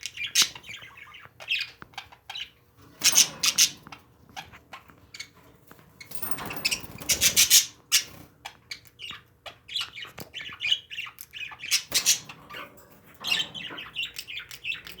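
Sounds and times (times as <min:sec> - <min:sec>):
parakeets chirping and squawking: 0:00.0 - 0:15.0.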